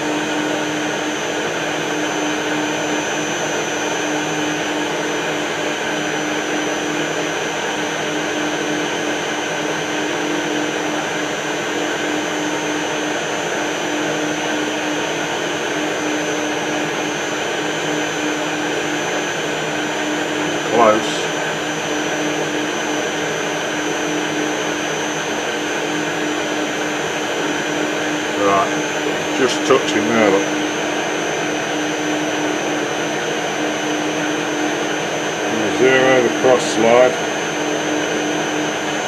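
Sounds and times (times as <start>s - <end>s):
metal lathe motor whine: 0.0s - 39.0s.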